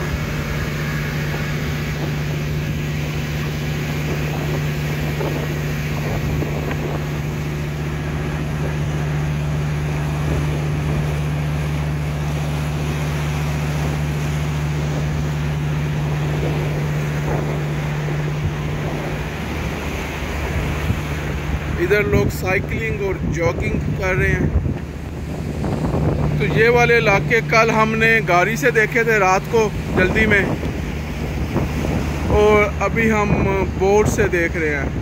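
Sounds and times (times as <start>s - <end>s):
boat engine droning: 0.0s - 35.0s
wind noise on microphone: 0.0s - 35.0s.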